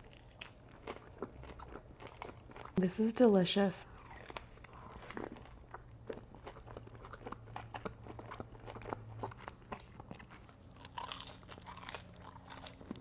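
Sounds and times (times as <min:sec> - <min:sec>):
crunchy food chewing: 0:00.0 - 0:02.8, 0:03.9 - 0:13.0.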